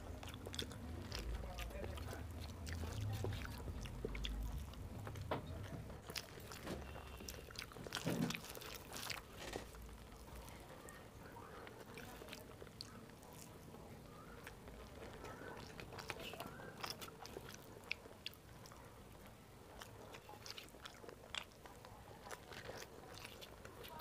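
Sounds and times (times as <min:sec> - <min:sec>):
person chewing with lip smacks: 0:00.0 - 0:24.0.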